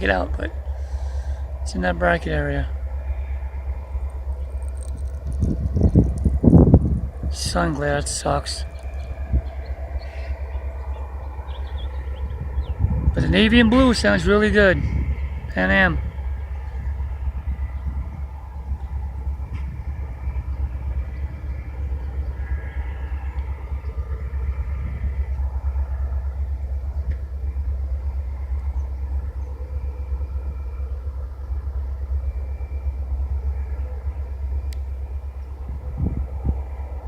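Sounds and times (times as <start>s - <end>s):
diesel locomotive rumble: 0.0s - 37.0s.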